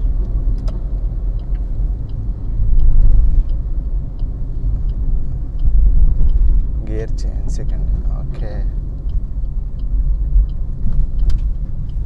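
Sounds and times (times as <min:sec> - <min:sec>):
car engine and road rumble: 0:00.0 - 0:12.0
turn indicator ticking: 0:00.0 - 0:12.0.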